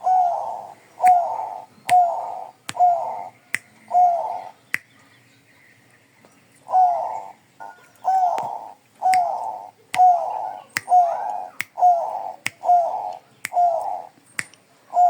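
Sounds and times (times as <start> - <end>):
dove cooing: 0.0 - 4.6, 6.6 - 14.2.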